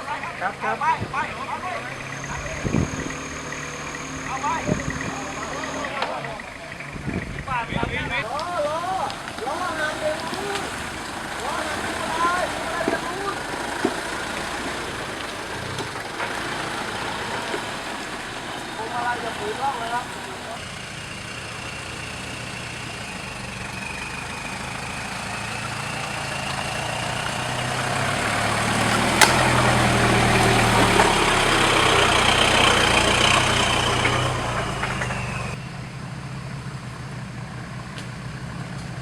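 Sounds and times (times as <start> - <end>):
truck engine under load: 0.0 - 39.0.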